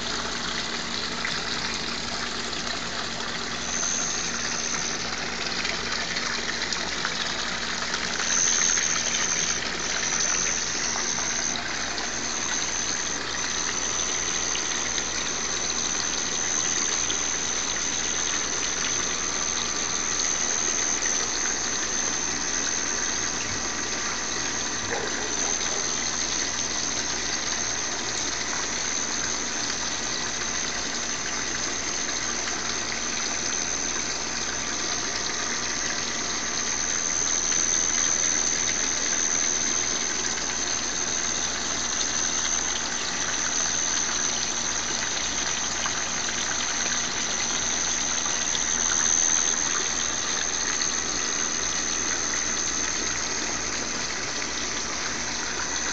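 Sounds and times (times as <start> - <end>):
constant high-pitched tone: 0.0 - 55.9
rushing pond water: 0.0 - 55.9.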